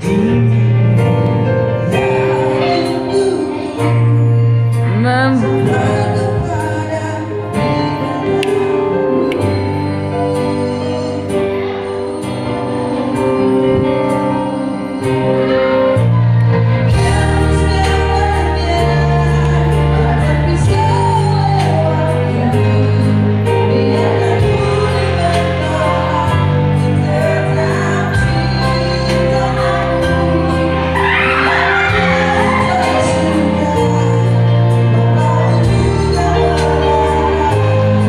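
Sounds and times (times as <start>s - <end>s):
person singing: 0.0s - 16.2s, 16.9s - 38.0s
live band playing: 0.0s - 38.0s.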